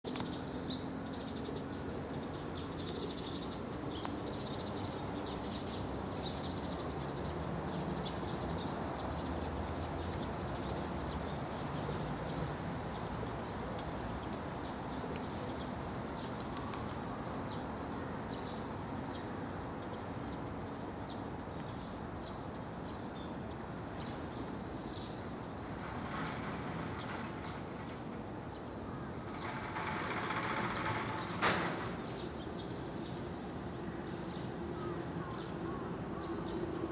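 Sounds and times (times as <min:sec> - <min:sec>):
small birds chirping: 0:00.1 - 0:36.9.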